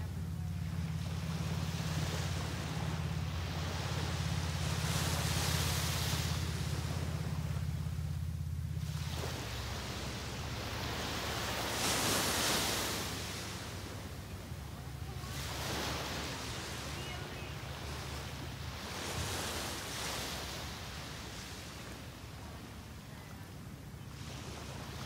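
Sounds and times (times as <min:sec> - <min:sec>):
small surf washing on sand: 0:00.0 - 0:08.2, 0:08.8 - 0:25.0
low rumble: 0:00.0 - 0:23.1.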